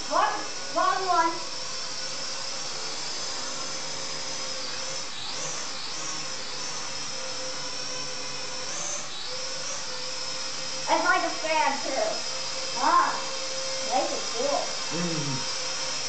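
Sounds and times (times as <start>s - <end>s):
toy drone propellers whining: 0.0s - 16.0s.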